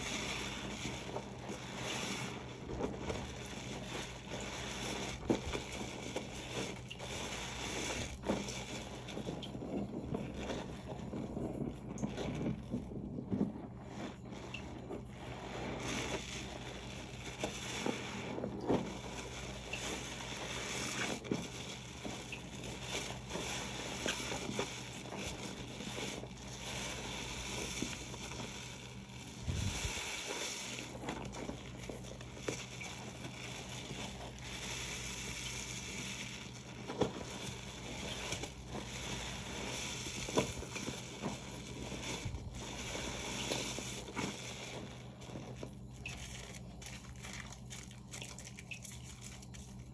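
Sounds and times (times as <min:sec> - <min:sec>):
soapy sponge squishing: 0:00.0 - 0:49.9.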